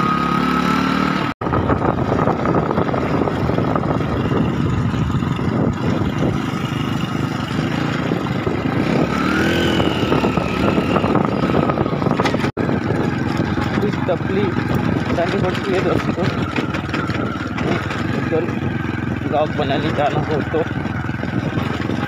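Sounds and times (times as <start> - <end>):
motorcycle engine running: 0.0 - 22.0
road noise: 0.0 - 22.0
rushing wind: 0.0 - 22.0.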